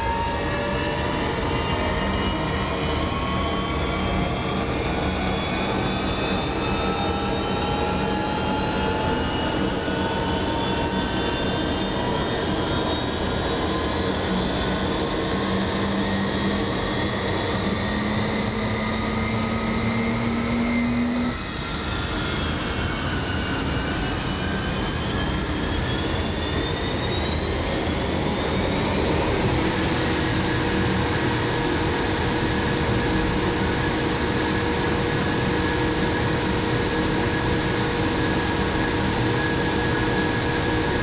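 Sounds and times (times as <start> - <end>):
turbine whining tones: 0.0 - 41.0.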